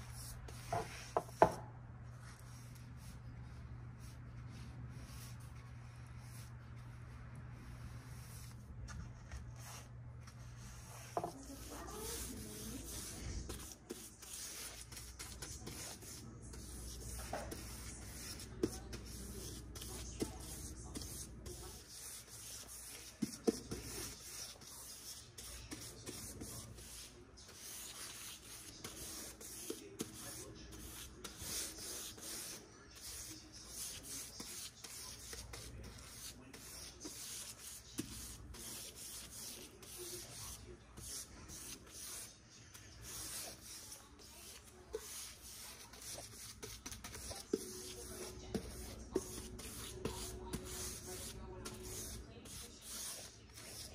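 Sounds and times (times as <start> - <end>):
paintbrush swishing: 0.0 - 53.9.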